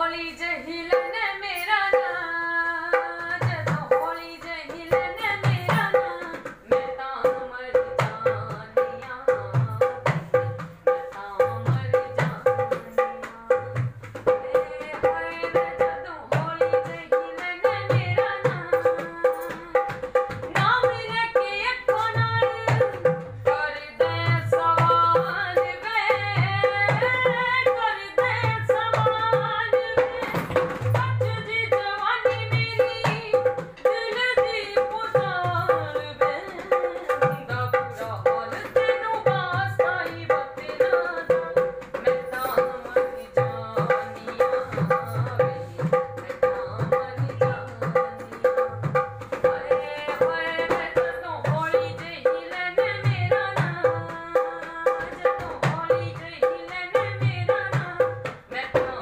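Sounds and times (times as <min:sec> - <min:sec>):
woman singing: 0:00.0 - 0:59.0
hand drum rhythm: 0:00.9 - 0:59.0.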